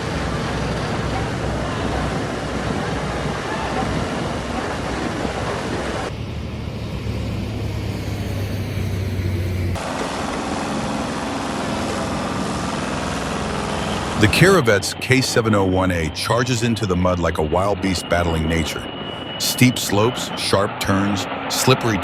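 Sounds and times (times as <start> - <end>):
heavy vehicle engine: 0.0 - 22.0.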